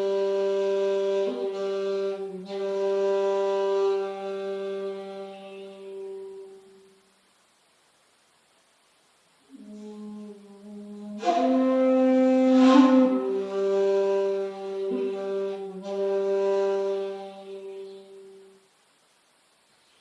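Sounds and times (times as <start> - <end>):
bamboo flute playing slow phrase: 0.0 - 7.0, 9.5 - 18.6.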